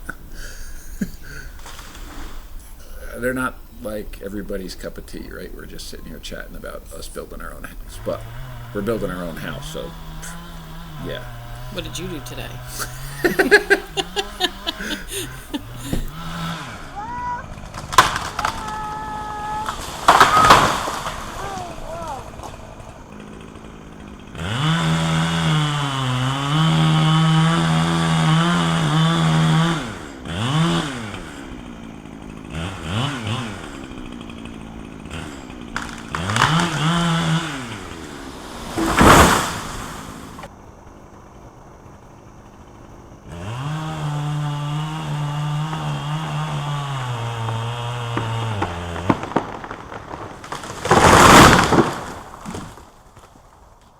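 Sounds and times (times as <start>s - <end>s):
chainsaw cutting: 0.0s - 40.6s, 41.2s - 53.6s.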